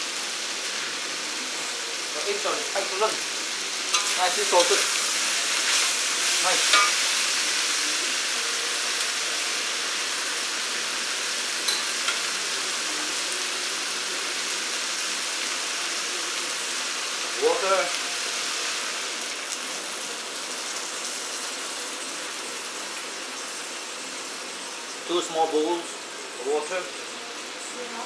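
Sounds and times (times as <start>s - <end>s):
noodles sizzling in a wok: 0.0s - 28.0s.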